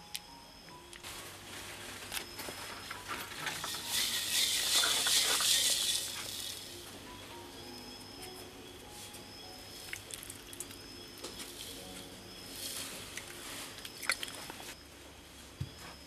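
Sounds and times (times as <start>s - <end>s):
rustling hiss: 0.2s - 14.8s.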